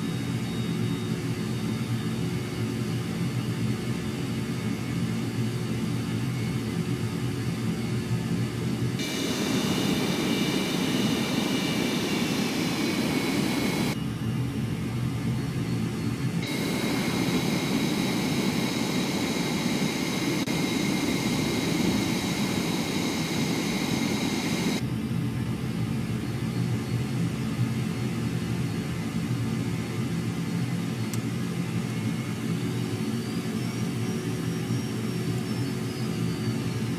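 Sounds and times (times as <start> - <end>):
jet engine high whine: 0.0 - 36.9
jet engine low rumble: 0.0 - 36.9.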